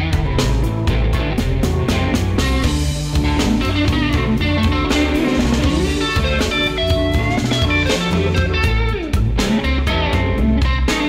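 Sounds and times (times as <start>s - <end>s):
guitar instrumental with drums: 0.0s - 11.0s.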